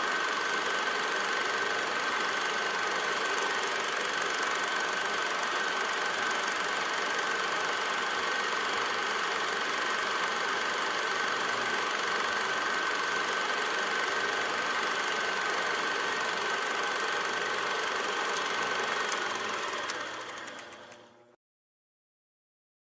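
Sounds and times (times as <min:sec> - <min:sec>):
film projector whirring: 0:00.0 - 0:21.4.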